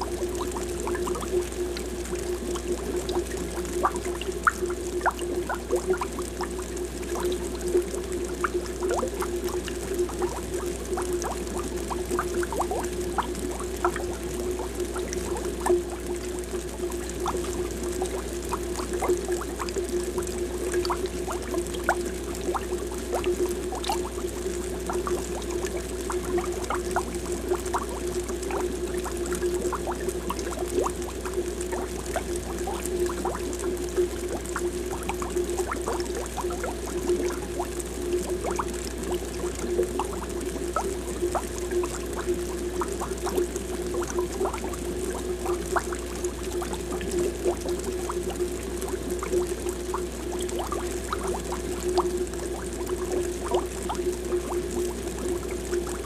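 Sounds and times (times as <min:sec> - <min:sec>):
air bubbles popping and gurgling: 0:00.0 - 0:56.0.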